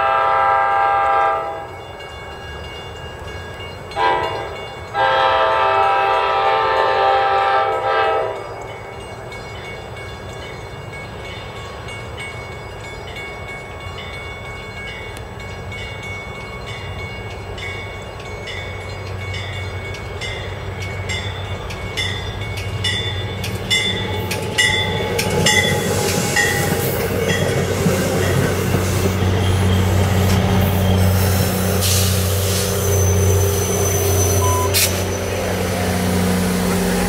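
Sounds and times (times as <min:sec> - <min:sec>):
diesel locomotive engine rumbling: 0:00.0 - 0:37.0
train bell ringing: 0:00.0 - 0:37.0
train wheels on rail: 0:00.0 - 0:37.0.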